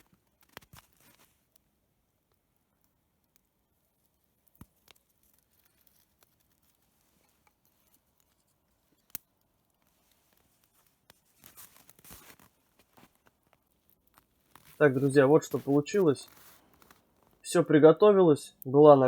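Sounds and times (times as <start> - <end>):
soft rustling: 0.0 - 1.6, 2.8 - 17.6.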